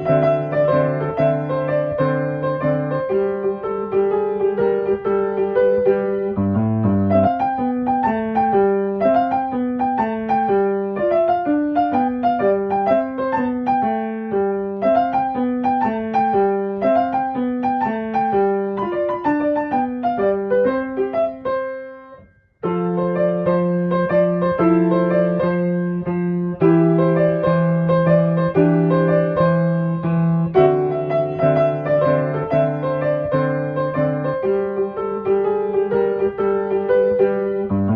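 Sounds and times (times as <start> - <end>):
piano music: 0.0 - 37.9.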